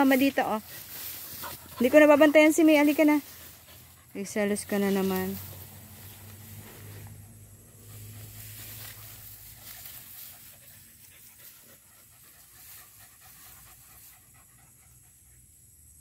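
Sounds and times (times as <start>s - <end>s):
small dog panting: 0.6s - 5.7s, 7.0s - 15.5s.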